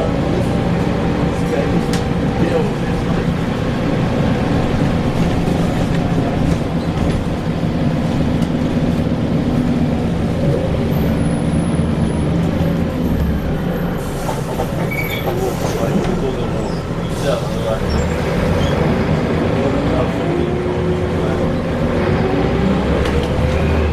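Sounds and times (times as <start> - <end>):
bus engine droning: 0.0 - 23.9.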